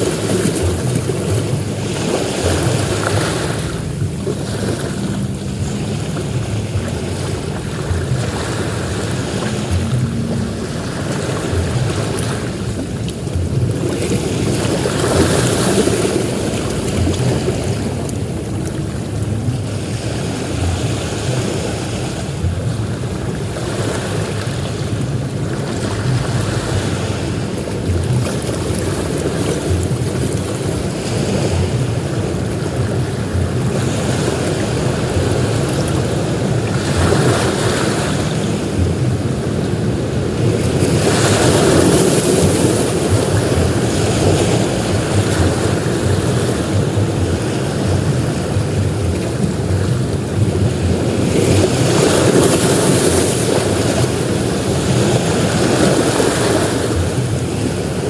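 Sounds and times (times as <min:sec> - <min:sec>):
ocean waves washing in: 0:00.0 - 0:58.0
wind buffeting microphone: 0:00.0 - 0:58.0.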